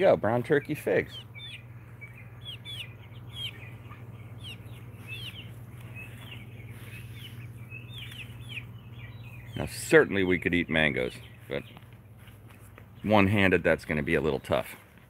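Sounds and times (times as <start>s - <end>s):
low hum: 0.0s - 13.6s
chicks chirping: 0.0s - 14.9s.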